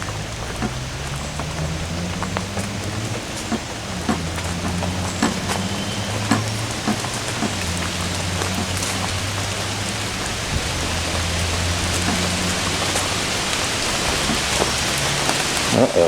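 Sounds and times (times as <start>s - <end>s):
raindrops tapping close by: 0.0s - 16.0s
steady rain falling: 0.0s - 16.0s.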